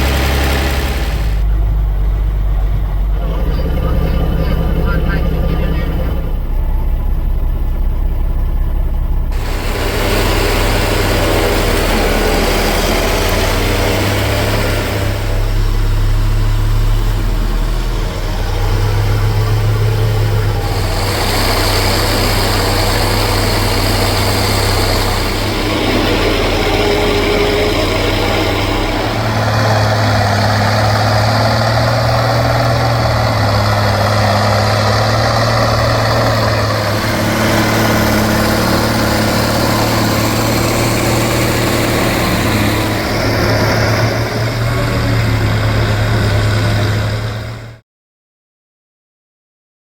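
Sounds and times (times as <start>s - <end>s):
farm machinery engines humming: 0.0s - 47.8s.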